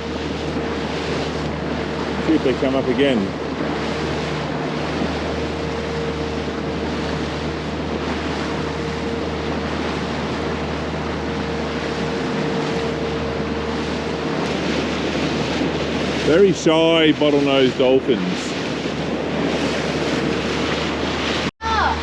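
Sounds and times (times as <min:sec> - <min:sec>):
boat motor humming: 0:00.0 - 0:22.0
rushing water: 0:00.0 - 0:22.0
wind on microphone: 0:00.0 - 0:22.0.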